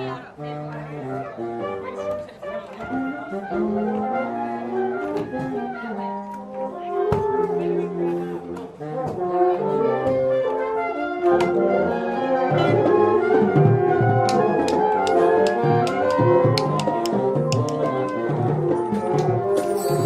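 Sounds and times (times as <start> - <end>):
brass band playing chords: 0.1 - 20.0.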